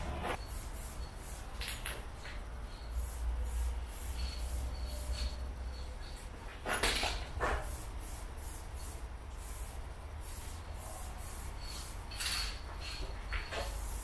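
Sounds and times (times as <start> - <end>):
spray paint can hissing: 0.4 - 6.2, 7.0 - 14.0.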